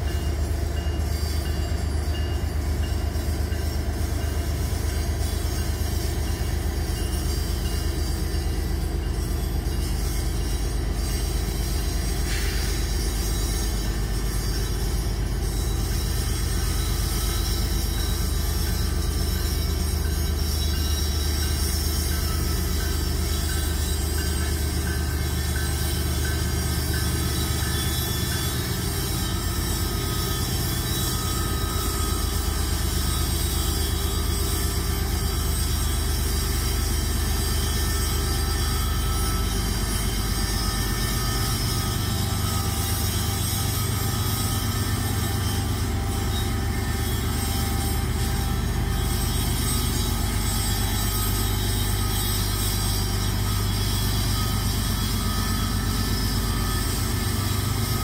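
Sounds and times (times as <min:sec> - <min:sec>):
diesel locomotives low engine drone: 0:00.0 - 0:58.0.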